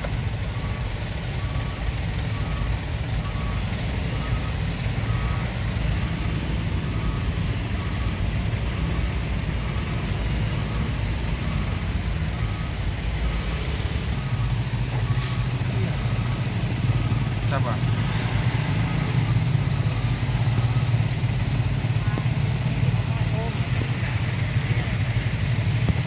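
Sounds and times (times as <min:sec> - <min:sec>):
reversing alarm beeping: 0:00.0 - 0:25.9
heavy vehicle engines rumbling: 0:00.0 - 0:26.0.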